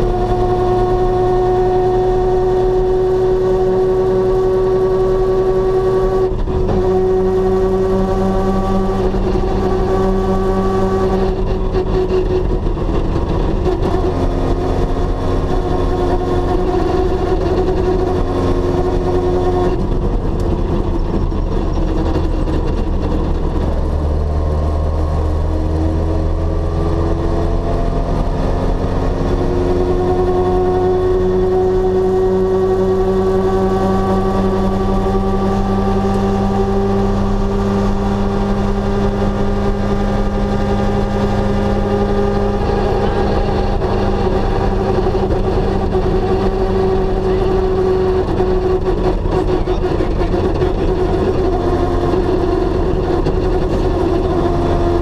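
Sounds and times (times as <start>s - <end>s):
car engine from inside cabin: 0.0s - 55.0s.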